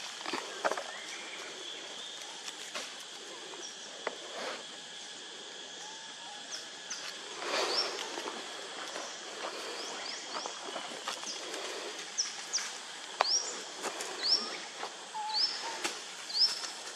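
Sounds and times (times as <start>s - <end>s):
high insect drone: 0.0s - 16.9s.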